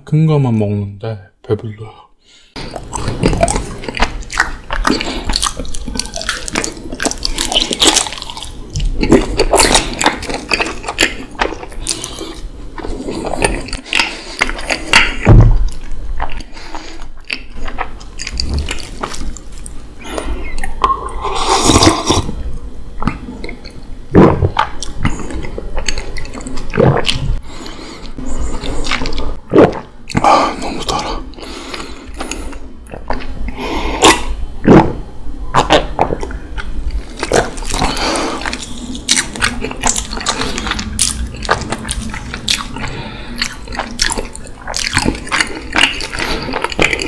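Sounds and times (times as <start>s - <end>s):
chewing honeycomb: 2.7s - 22.2s, 24.5s - 34.2s, 35.5s - 47.0s.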